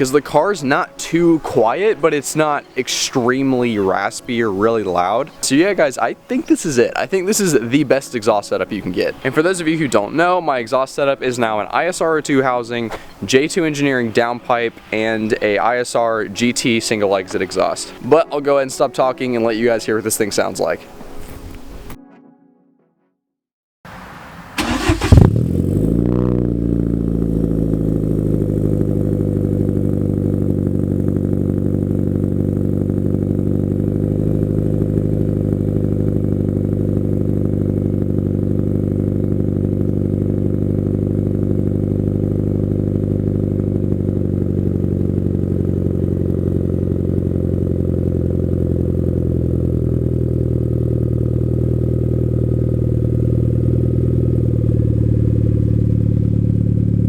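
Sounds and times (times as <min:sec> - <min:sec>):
car engine starting and idling: 0:00.0 - 0:21.9, 0:23.9 - 0:57.0.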